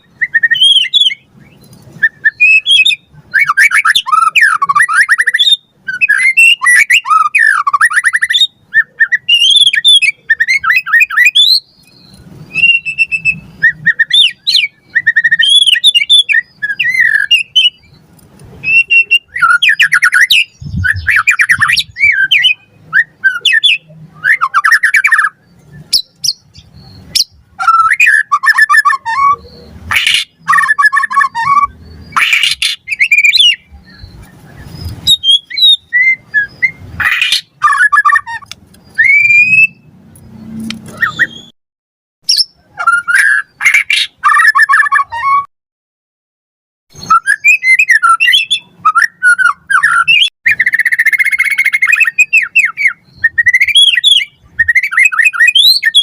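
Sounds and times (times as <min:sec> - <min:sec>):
bird singing varied song: 0:00.0 - 0:41.5, 0:42.3 - 0:45.5, 0:46.9 - 0:56.0.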